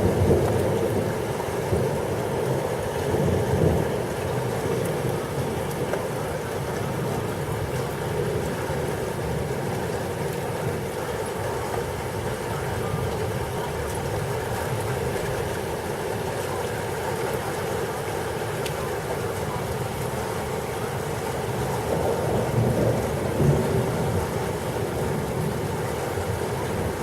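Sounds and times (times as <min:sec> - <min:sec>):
heavy rain: 0:00.0 - 0:27.0
wind: 0:00.0 - 0:27.0.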